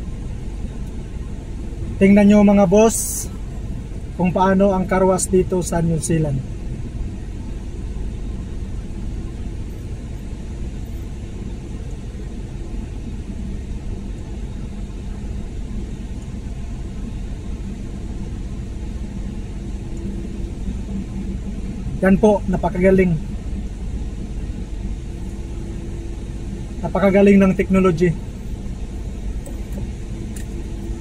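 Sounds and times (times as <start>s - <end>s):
car wash machinery rumble: 0.0s - 31.0s.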